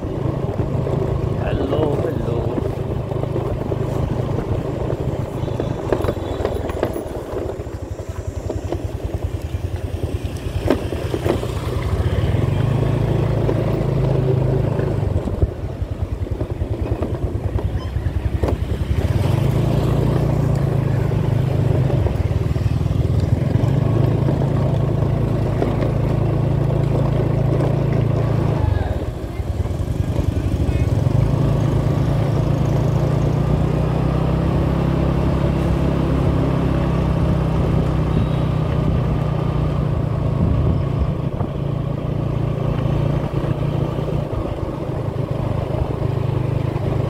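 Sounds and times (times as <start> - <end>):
motorbike engine running: 0.0 - 47.0
road noise: 0.0 - 47.0.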